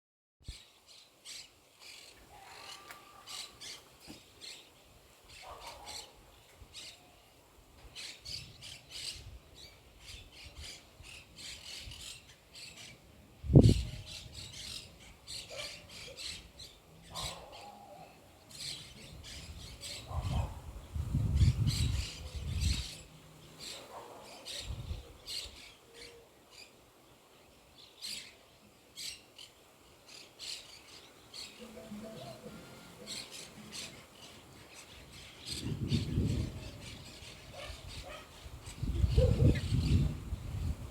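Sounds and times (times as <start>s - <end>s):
birds chirping: 0.5s - 7.2s, 8.0s - 40.9s.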